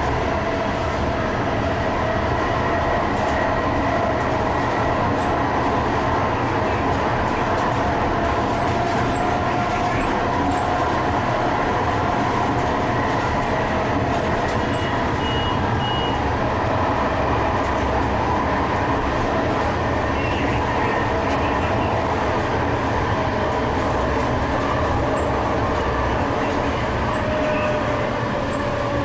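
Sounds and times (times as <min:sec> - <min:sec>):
train car running rumble: 0:00.0 - 0:29.0.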